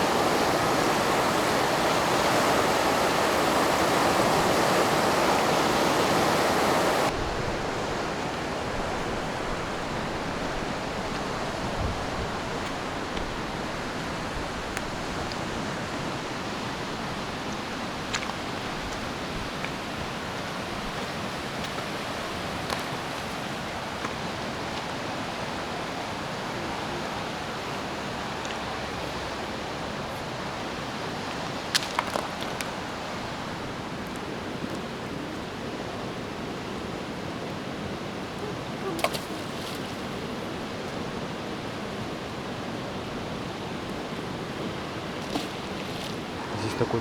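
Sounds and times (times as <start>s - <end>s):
river rushing: 0.0s - 47.0s.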